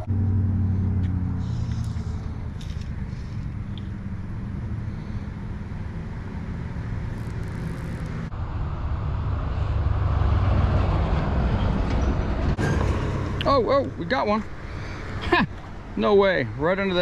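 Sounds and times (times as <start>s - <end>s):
road traffic rumble: 0.0s - 17.0s
vehicle passing: 0.0s - 17.0s.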